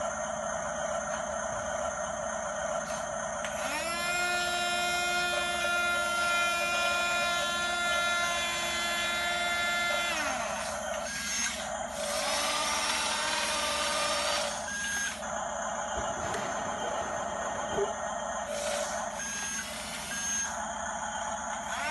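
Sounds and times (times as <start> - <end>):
model bulldozer motor whining: 0.0 - 21.9
steady mechanical hum: 0.0 - 21.9.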